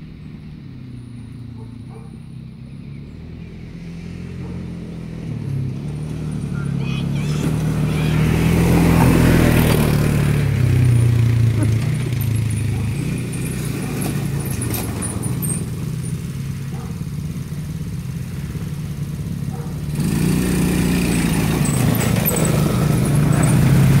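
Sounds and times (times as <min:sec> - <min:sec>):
small atv engine running: 0:00.0 - 0:24.0.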